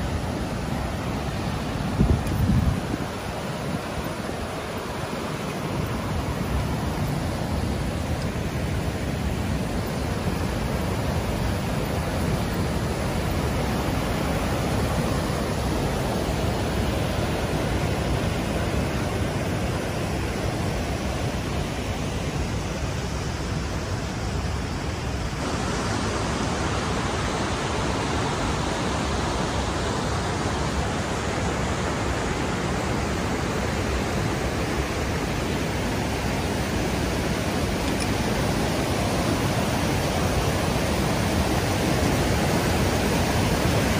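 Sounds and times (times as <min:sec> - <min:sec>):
river water rushing over rocks: 0:00.0 - 0:43.9.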